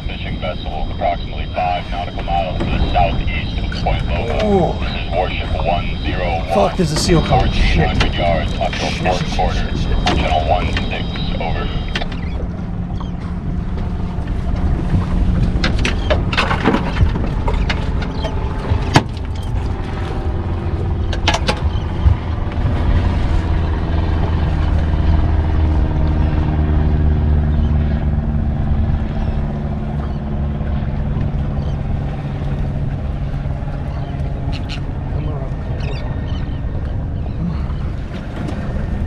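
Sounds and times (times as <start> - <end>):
water noise: 0.0 - 39.0
wind: 0.0 - 39.0.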